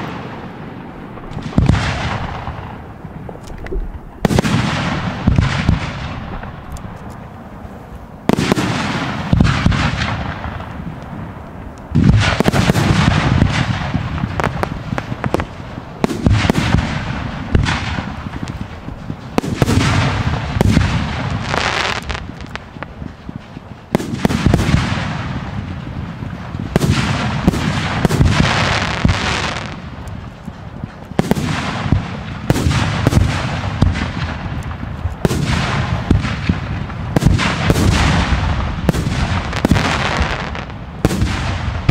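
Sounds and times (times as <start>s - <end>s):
fireworks bursting with booms: 0.0s - 41.9s.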